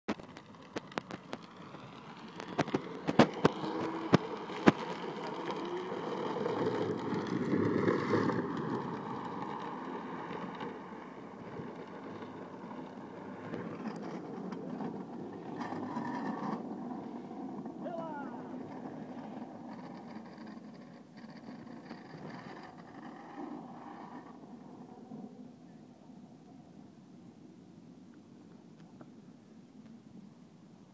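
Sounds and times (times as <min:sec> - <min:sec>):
plastic wheels scraping on asphalt: 0:00.1 - 0:25.6.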